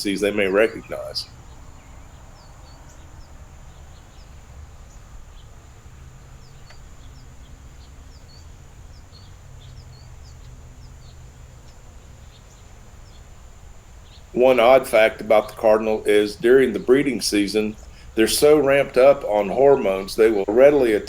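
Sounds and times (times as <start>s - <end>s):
birds chirping: 0.0s - 21.0s
low outdoor rumble: 0.0s - 21.0s.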